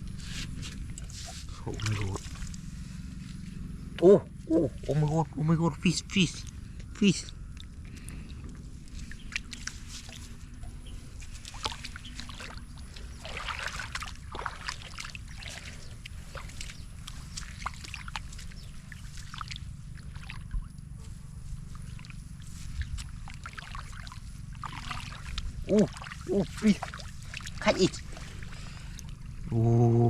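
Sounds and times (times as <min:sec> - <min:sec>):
floodwater splashing: 0:01.1 - 0:02.9, 0:04.6 - 0:20.9, 0:21.6 - 0:29.7.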